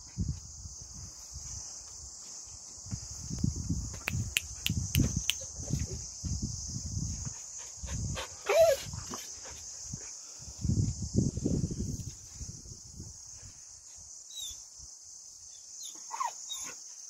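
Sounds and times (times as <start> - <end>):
high insect buzz: 0.0 - 17.0.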